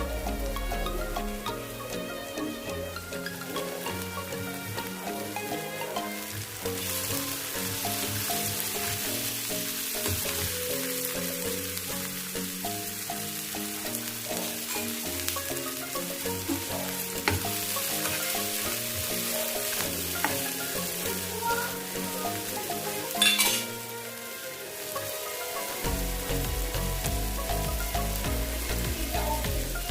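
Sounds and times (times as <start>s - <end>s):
background music: 0.0s - 29.9s
food sizzling in a hot pan: 0.0s - 29.9s.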